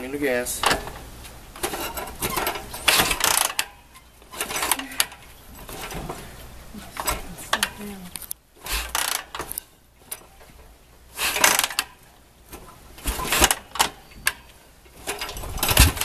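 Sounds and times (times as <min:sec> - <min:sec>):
motorcycle engine turning over: 0:00.6 - 0:10.4, 0:11.2 - 0:16.0.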